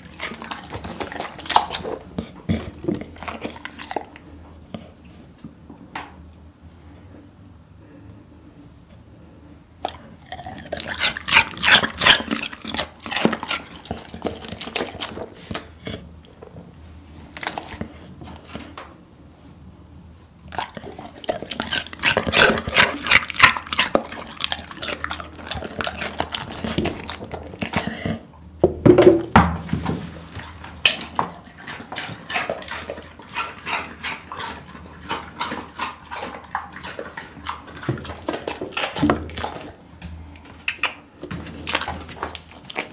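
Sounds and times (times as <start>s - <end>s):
dog crunching cucumber: 0.0s - 5.2s, 9.8s - 18.8s, 20.4s - 28.3s, 28.9s - 42.9s.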